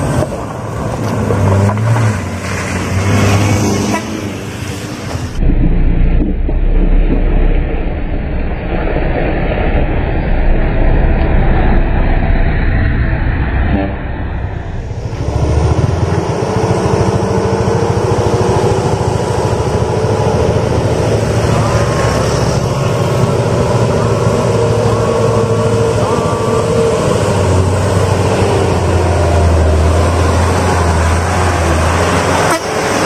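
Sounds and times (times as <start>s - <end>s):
truck diesel engine labouring: 0.0s - 33.0s.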